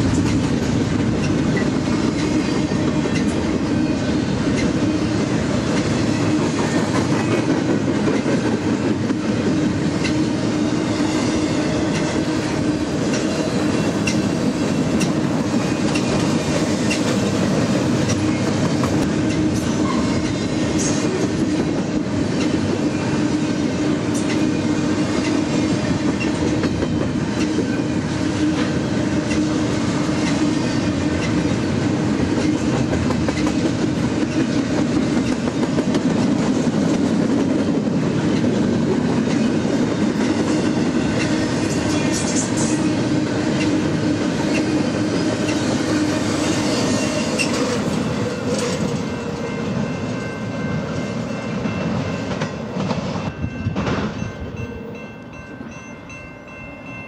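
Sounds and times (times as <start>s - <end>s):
steel wheels clattering on rails: 0.0s - 55.0s
freight train rolling past: 0.0s - 57.0s.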